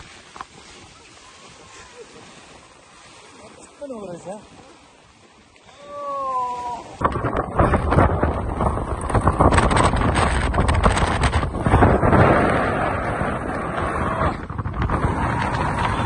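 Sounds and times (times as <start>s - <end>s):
gusting wind on microphone: 0.0s - 16.0s.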